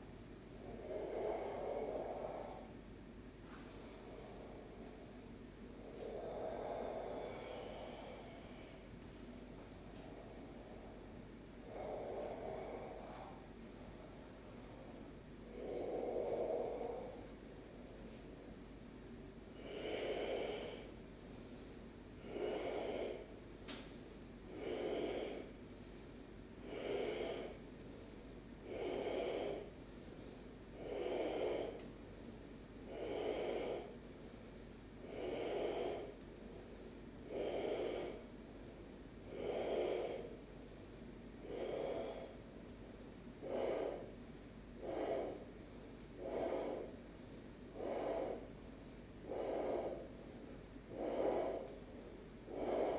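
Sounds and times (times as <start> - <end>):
rhythmic raspy breathing: 0.0 - 3.2, 3.8 - 18.4, 19.4 - 52.9.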